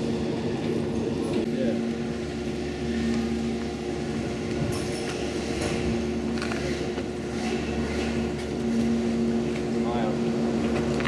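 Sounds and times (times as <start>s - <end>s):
machinery hum: 0.0s - 11.0s.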